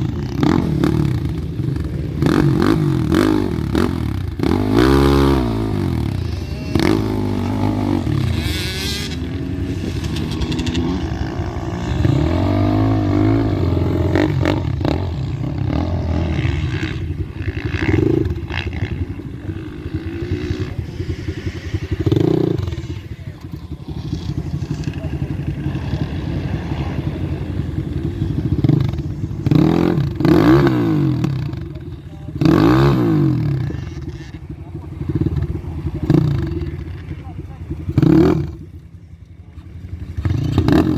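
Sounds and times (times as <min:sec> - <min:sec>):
two-stroke motorcycle engine revving: 0:00.0 - 0:40.9.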